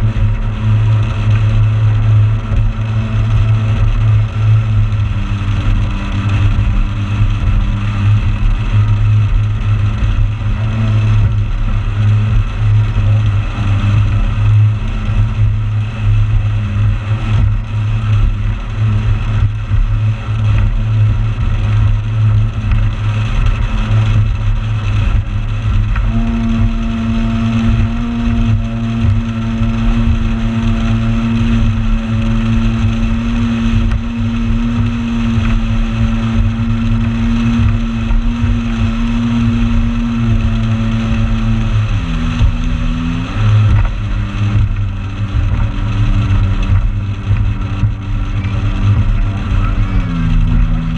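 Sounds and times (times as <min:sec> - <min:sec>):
motorboat engine droning: 0:00.0 - 0:50.9
water noise: 0:00.0 - 0:50.9
wind noise: 0:00.0 - 0:50.9.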